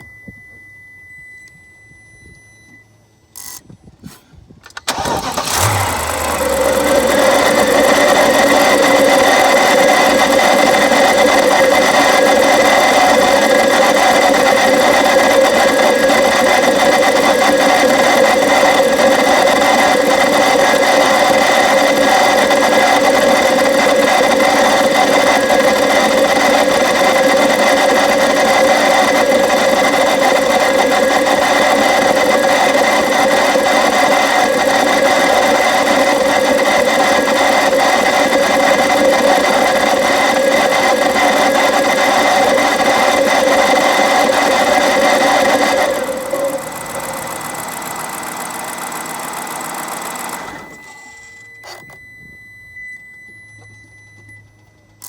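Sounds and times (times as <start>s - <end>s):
car engine idling: 4.8s - 51.0s
steady grinding noise: 4.9s - 51.8s.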